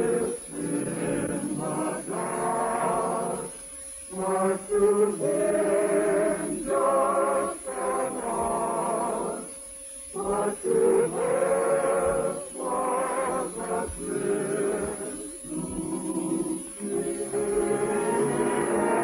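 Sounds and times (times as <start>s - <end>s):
person singing with vibrato: 0.0s - 19.0s.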